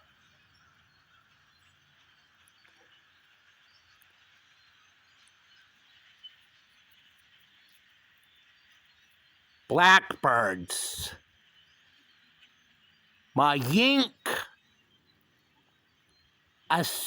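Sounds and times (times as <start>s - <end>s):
faint background hiss: 2.9s - 17.0s.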